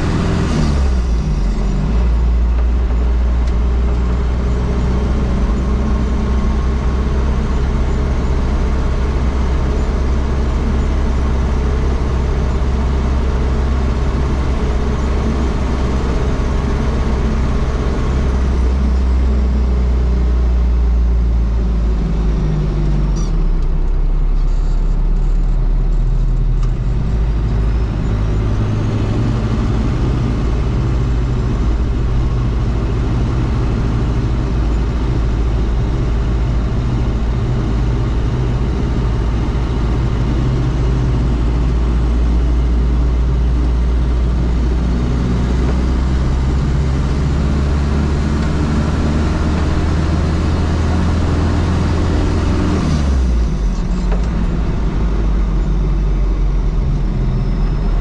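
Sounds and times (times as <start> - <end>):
diesel engine running: 0.0 - 58.0
road noise: 0.0 - 58.0.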